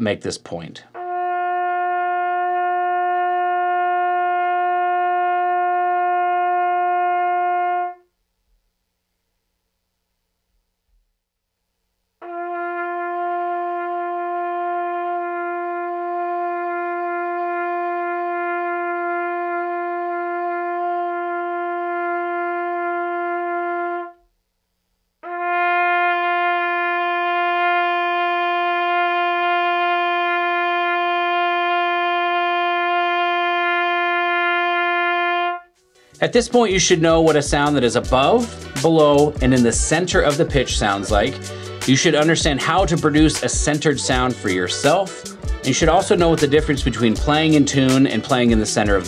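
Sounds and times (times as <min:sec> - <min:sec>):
trumpet holding long notes: 0:01.0 - 0:08.2, 0:12.2 - 0:24.3, 0:25.2 - 0:49.0.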